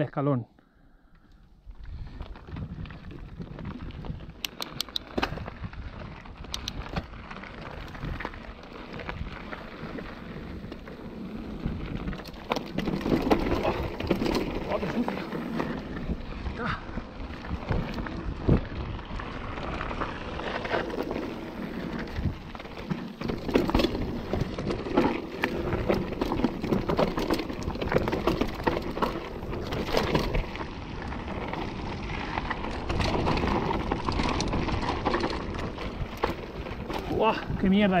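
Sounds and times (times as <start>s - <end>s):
wind noise on microphone: 1.6s - 38.0s
bike rattling: 1.7s - 38.0s
tyres crunching over stones: 2.1s - 16.3s, 17.0s - 38.0s.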